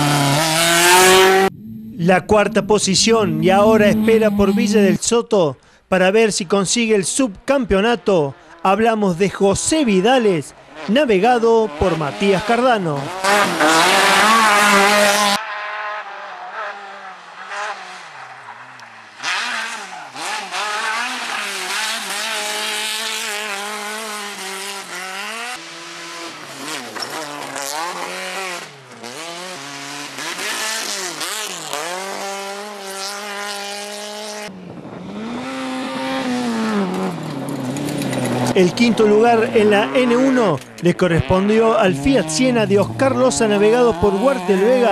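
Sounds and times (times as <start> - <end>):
rally car engines revving hard: 0.0 - 5.0, 7.7 - 44.9.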